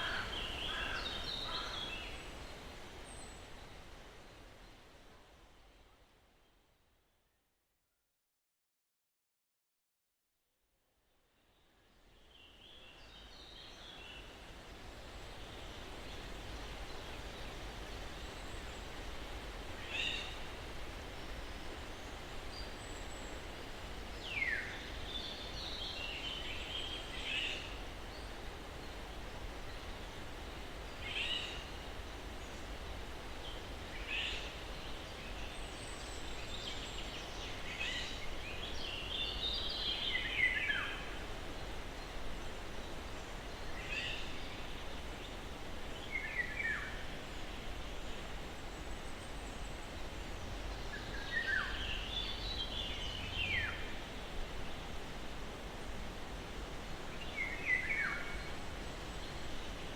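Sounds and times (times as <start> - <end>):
steady breeze: 0.0 - 7.0, 11.1 - 59.9.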